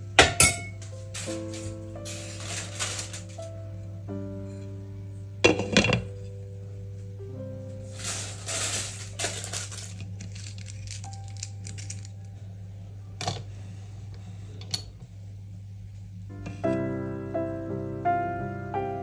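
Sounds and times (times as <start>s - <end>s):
piano music: 0.0s - 13.0s, 16.2s - 19.0s
steady low hum: 0.0s - 18.8s.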